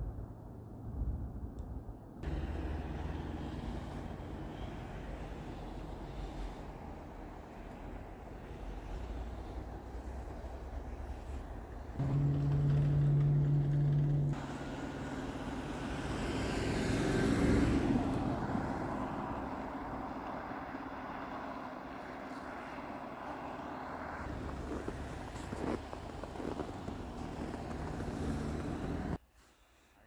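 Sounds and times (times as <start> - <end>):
vehicle passing by: 2.2 - 29.2.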